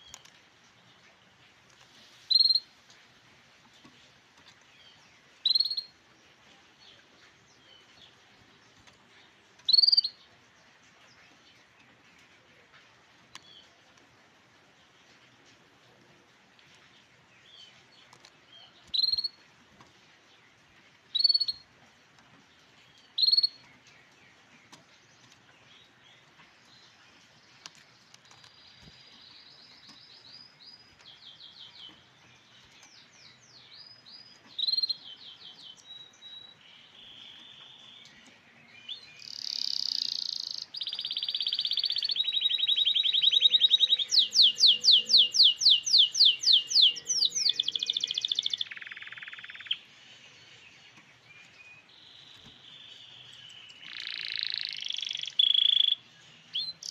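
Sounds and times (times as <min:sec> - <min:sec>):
canary calling and singing: 0:00.0 - 0:03.0, 0:03.6 - 0:14.1, 0:16.7 - 0:56.9.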